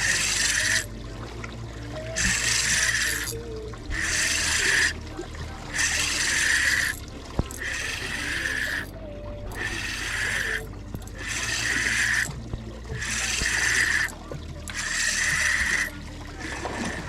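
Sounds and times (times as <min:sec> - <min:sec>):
rhythmic rushing water bursts: 0:00.0 - 0:17.0.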